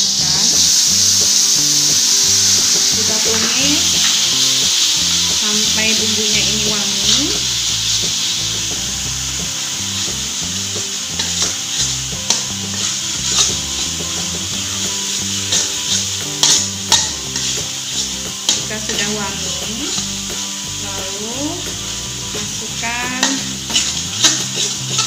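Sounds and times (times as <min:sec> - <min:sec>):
spatula scraping a wok: 0:00.0 - 0:25.0
spice paste sizzling in oil: 0:00.0 - 0:25.0.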